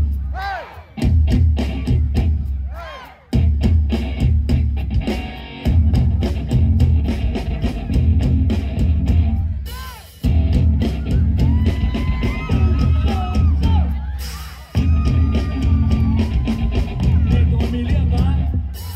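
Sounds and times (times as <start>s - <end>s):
rock band playing: 0.0s - 18.9s.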